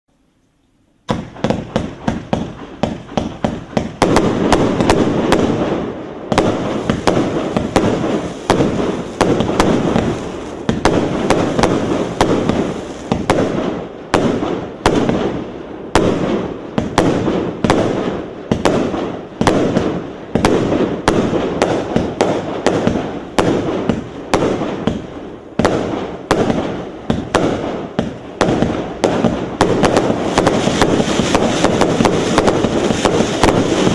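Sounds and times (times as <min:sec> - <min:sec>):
fireworks launch shots: 0:01.1 - 0:33.9.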